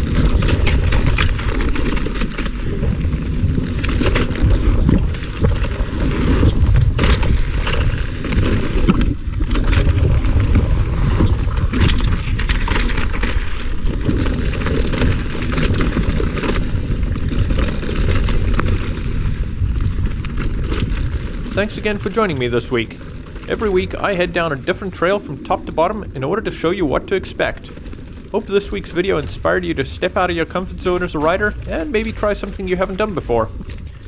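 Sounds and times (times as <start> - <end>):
bike clicks and rattles: 0.0 - 34.0
tyres rumbling on dirt: 0.0 - 34.0
wind buffeting microphone: 0.0 - 34.0.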